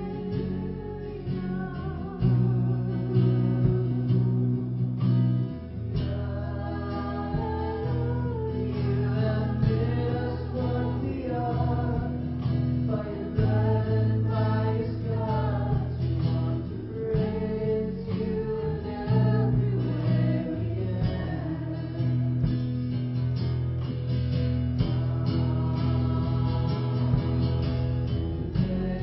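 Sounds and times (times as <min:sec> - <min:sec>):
guitar: 0:00.0 - 0:29.0
people singing worship song: 0:00.0 - 0:29.0.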